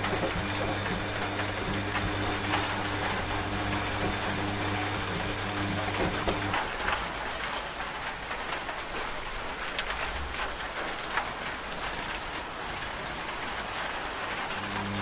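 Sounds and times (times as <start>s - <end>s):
rain falling: 0.0s - 15.0s
raindrops ticking: 0.0s - 15.0s.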